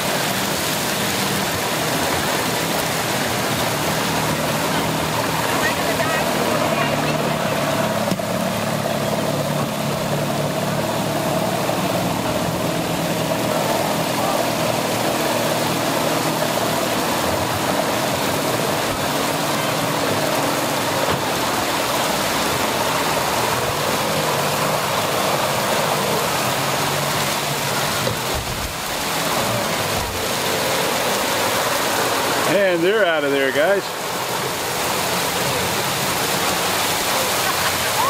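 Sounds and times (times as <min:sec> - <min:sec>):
boat engine running: 0:00.0 - 0:38.0
heavy rain: 0:00.0 - 0:38.0.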